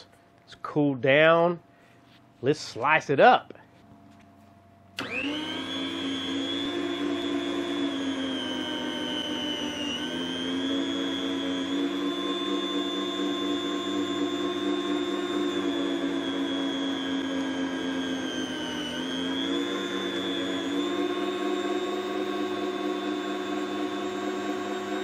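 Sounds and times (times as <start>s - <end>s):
meat slicer motor whining: 5.0s - 25.0s.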